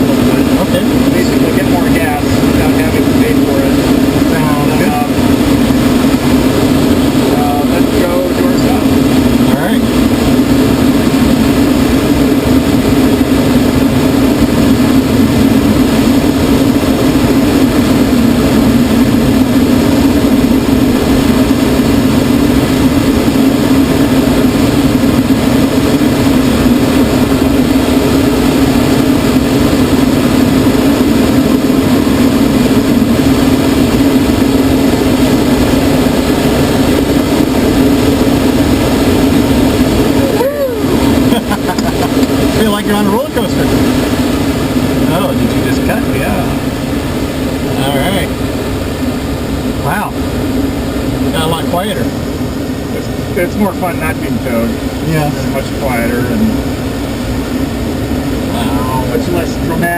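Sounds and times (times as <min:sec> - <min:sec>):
propeller engine drone: 0:00.0 - 0:59.9
rushing air: 0:00.0 - 0:59.9.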